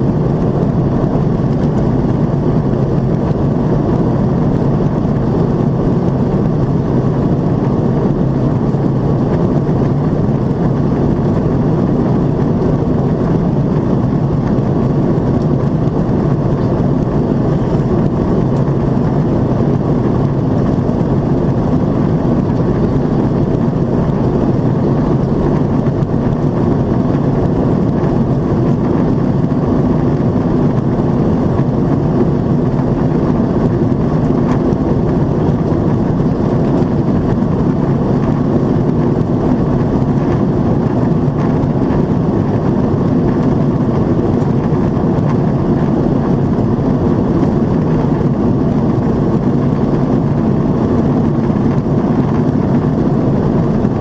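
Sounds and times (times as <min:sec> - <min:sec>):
airplane cabin engine hum: 0:00.0 - 0:54.0.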